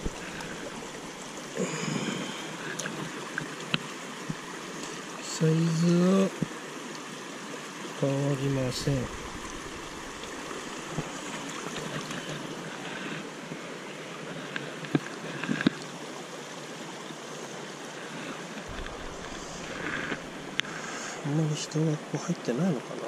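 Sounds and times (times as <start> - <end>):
river flowing over stones: 0.0 - 23.0.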